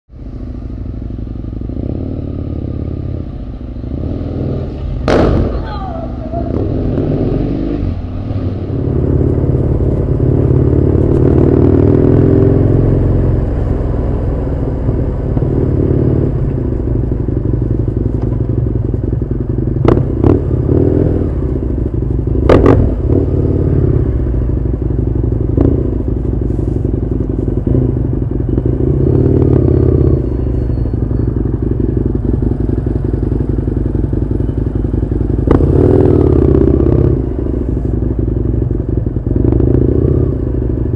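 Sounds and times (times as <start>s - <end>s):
motorcycle engine revving: 0.2s - 40.9s.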